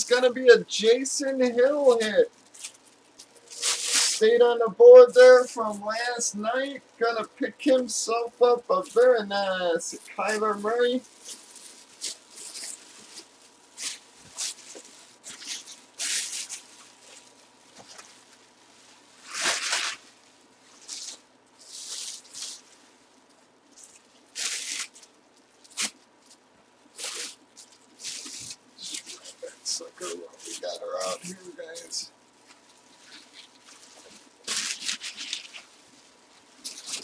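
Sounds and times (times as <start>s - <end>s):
plastic bag and bubble wrap rustling: 0.0s - 37.0s.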